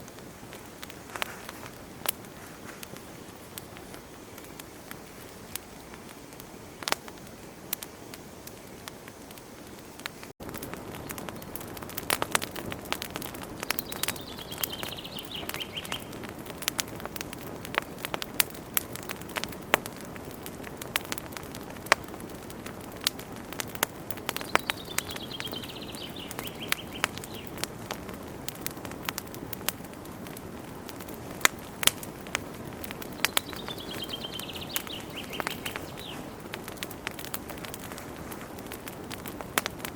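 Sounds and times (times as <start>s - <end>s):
hiss of flames: 0.0s - 39.9s
wood fire popping and snapping: 0.0s - 39.9s.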